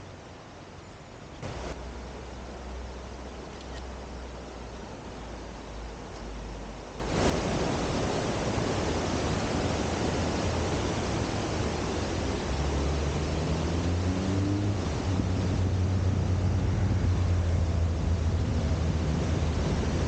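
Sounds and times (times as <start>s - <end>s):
low engine hum: 0.0s - 8.2s, 9.5s - 20.0s
mountain stream rushing: 0.0s - 20.0s.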